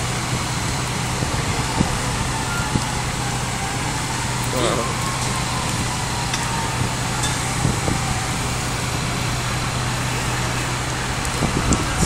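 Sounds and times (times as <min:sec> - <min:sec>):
fire engines idling: 0:00.0 - 0:12.0.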